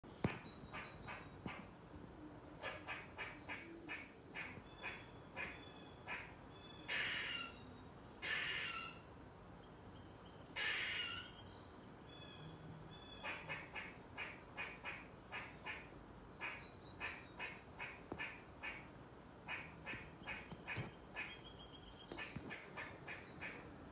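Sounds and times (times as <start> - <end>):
squirrel alarm calls: 0.2 - 9.1, 10.0 - 11.5, 12.1 - 23.9.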